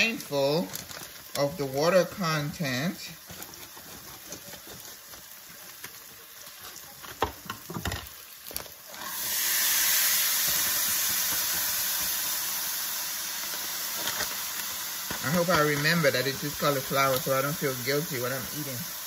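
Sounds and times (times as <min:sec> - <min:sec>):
food sizzling in a hot pot: 0:00.0 - 0:19.0.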